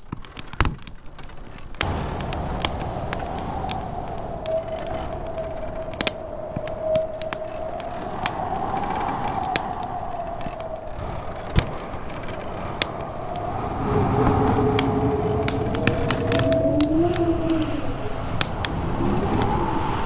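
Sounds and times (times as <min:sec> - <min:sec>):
fire crackling and popping: 0:00.0 - 0:20.0
wind howling: 0:01.7 - 0:20.0.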